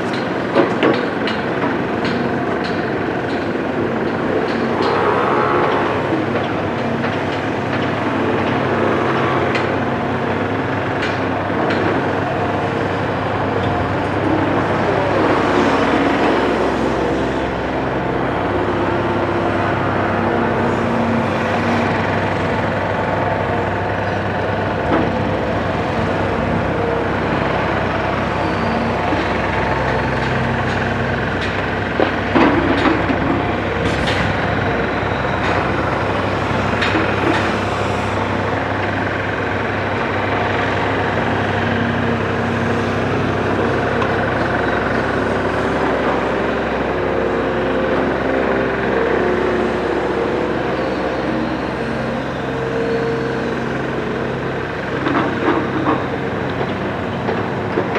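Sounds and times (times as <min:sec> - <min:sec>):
excavator diesel engine: 0:00.0 - 0:57.9.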